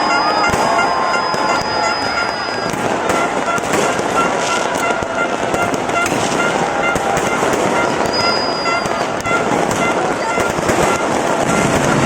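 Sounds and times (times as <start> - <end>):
fireworks bangs and crackles: 0.0 - 12.0
high whistle: 0.0 - 12.0.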